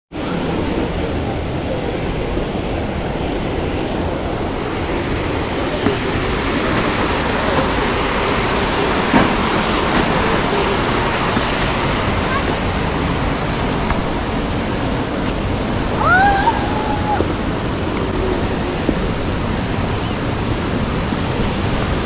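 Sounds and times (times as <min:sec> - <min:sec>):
waterfall rushing: 0:00.2 - 0:22.0.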